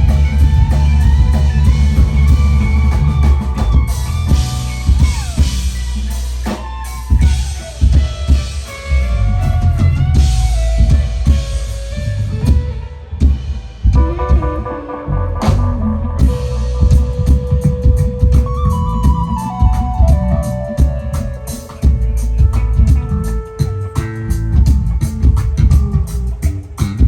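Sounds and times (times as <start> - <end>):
drum kit: 0.0 - 27.0
electric bass: 0.0 - 27.0
electric guitar bending notes: 0.0 - 27.0.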